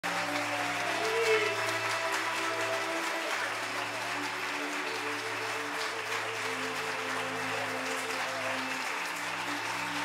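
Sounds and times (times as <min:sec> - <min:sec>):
audience applauding: 0:00.0 - 0:10.0
music with sustained notes: 0:00.0 - 0:10.0.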